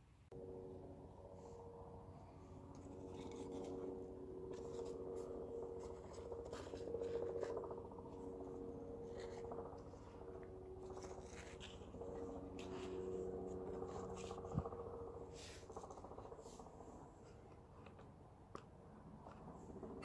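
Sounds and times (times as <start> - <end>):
steady hum of held tones: 0.0 - 20.0.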